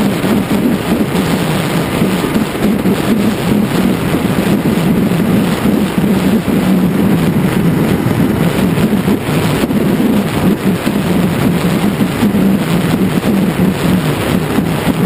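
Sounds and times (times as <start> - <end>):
motorcycle engine droning: 0.0 - 15.0
wind buffeting camera: 0.0 - 15.0.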